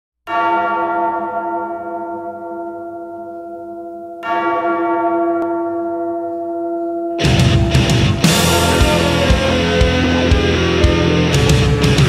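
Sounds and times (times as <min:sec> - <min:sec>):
bell tolling: 0:00.3 - 0:12.0.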